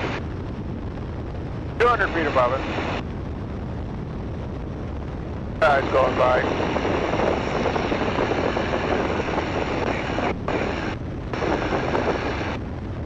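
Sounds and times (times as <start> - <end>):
biplane engine and propeller: 0.0 - 13.0
wind noise: 0.0 - 13.0.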